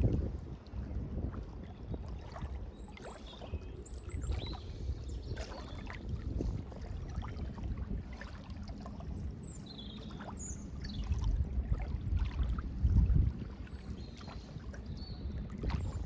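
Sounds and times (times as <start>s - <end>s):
water lapping: 0.0s - 16.0s.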